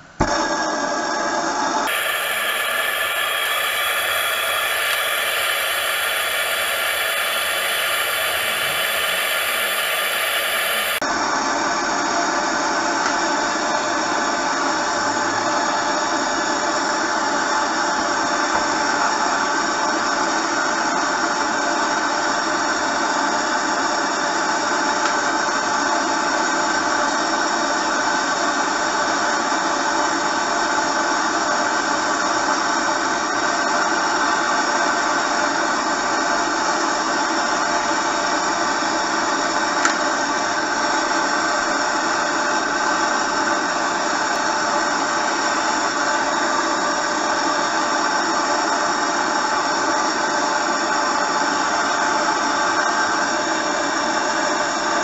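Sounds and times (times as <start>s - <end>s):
gas torch hissing: 0.0s - 55.0s.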